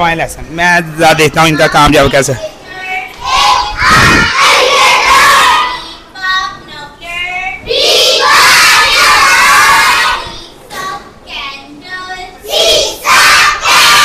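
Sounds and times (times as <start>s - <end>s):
children reciting in chorus: 1.4s - 14.0s.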